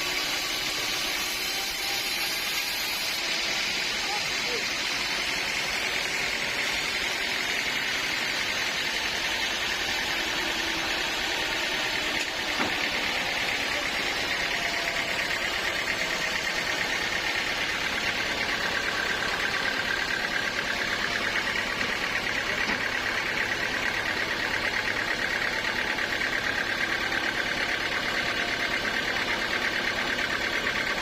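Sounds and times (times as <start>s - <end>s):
sawmill saw humming: 0.0s - 31.0s.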